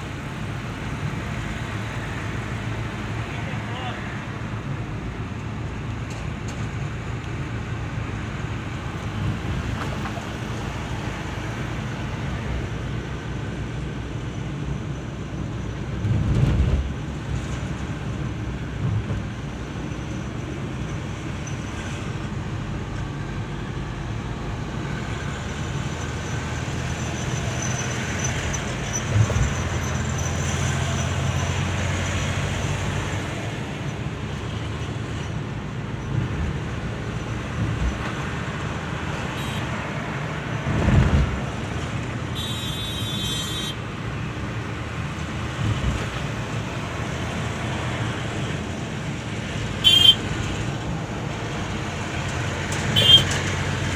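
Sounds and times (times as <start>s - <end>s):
car engine hum: 0.0s - 53.9s.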